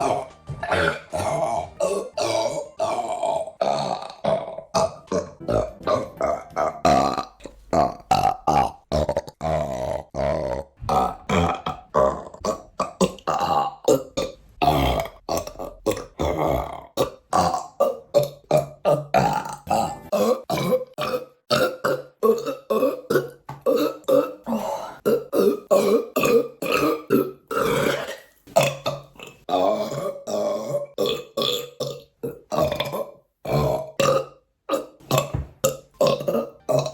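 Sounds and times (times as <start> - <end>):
woman belching: 0.0 - 36.9.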